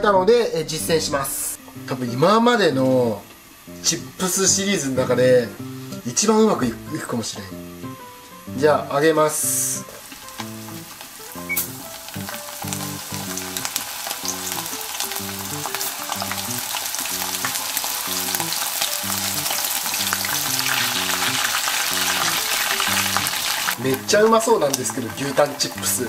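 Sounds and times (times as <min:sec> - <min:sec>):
soft background music: 0:00.0 - 0:26.0
meat sizzling in hot oil: 0:01.6 - 0:26.0.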